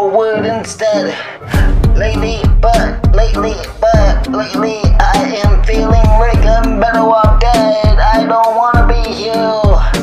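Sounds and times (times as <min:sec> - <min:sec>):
instrumental hip hop beat: 0:00.2 - 0:10.0.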